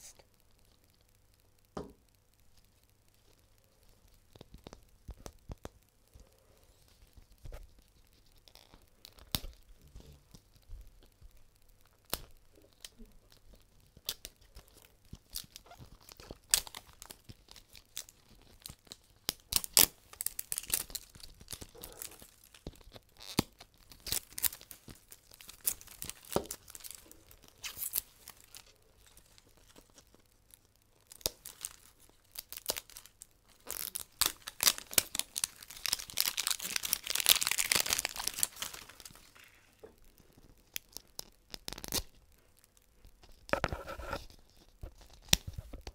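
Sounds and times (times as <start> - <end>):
plastic wrapping tearing and crinkling: 6.7 - 45.9.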